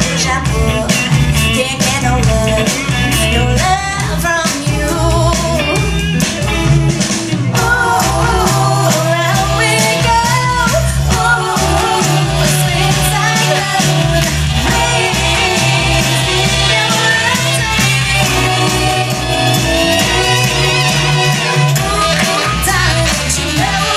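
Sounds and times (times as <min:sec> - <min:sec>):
rock and roll song: 0:00.0 - 0:23.9.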